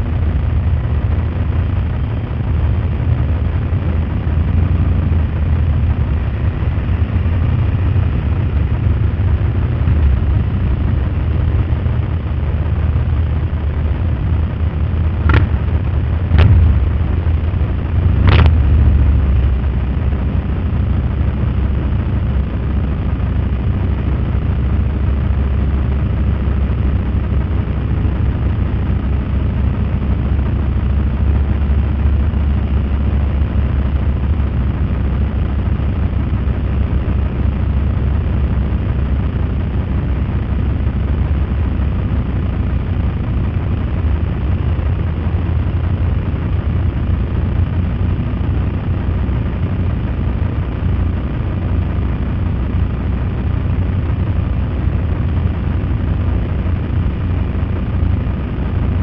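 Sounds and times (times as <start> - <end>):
motorcycles rumbling: 0.0 - 59.0
wind noise on microphone: 0.0 - 59.0.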